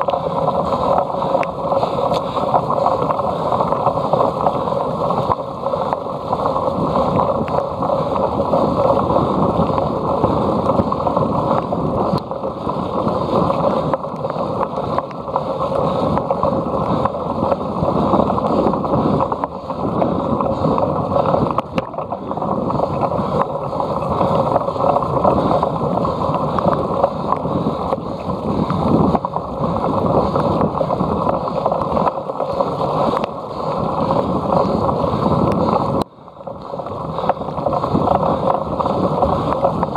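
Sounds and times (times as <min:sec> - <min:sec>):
bike riding over rough ground: 0:00.0 - 0:39.9
wind on microphone: 0:00.0 - 0:39.9.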